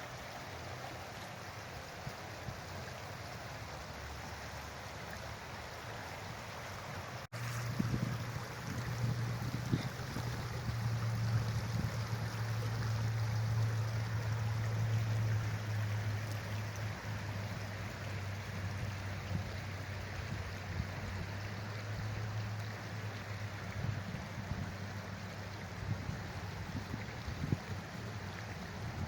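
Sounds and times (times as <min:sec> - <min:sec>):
rushing river water: 0:00.0 - 0:29.0.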